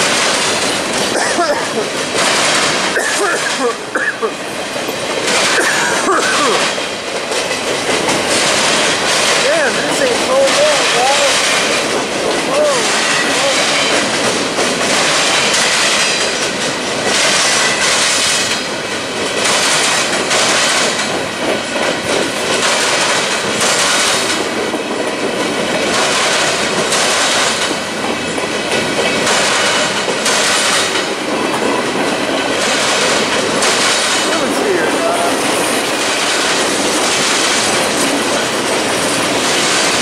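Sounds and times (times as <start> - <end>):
rumble of wheels on rail: 0.0 - 40.0
wheels clacking over rail joints: 0.0 - 40.0.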